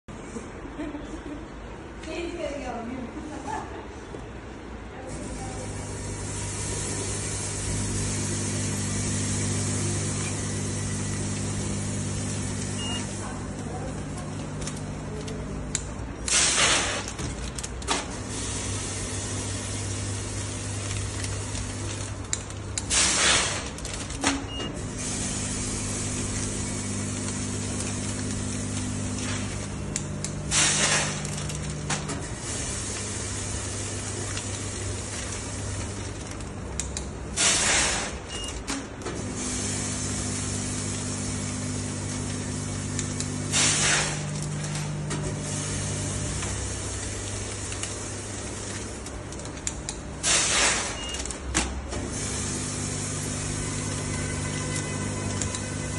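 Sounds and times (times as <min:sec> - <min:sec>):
filling machine humming: 0:05.1 - 0:55.9.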